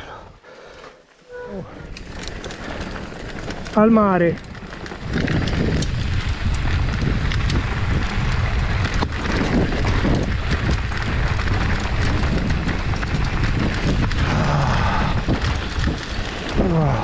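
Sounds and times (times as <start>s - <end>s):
bike tyres rolling on gravel: 0.0s - 17.0s
wind buffeting microphone: 1.9s - 17.0s.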